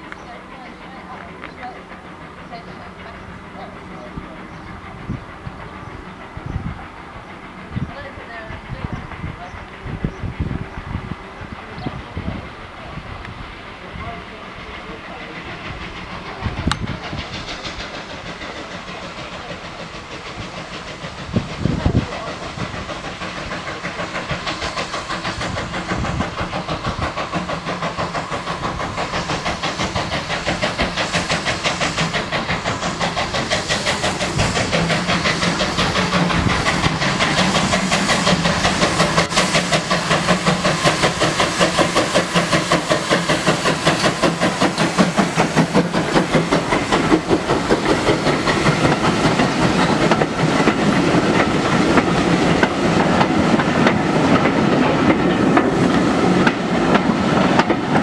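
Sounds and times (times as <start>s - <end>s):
steam train rhythmic beat: 0.0s - 58.0s.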